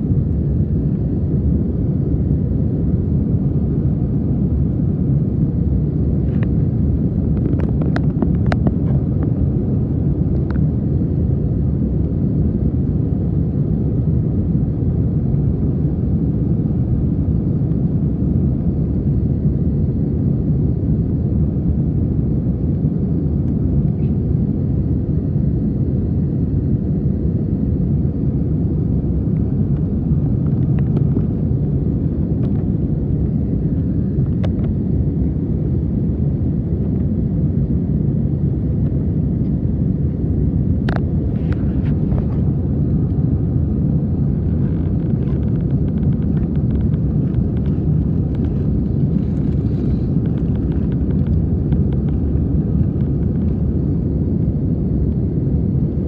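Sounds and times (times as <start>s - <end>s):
airliner cabin noise: 0.0s - 56.0s.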